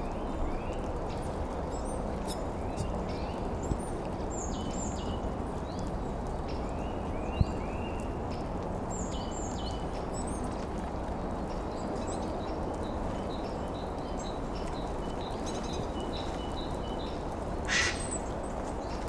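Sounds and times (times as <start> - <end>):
small birds high-pitched calls: 0.0 - 10.6, 11.5 - 19.0.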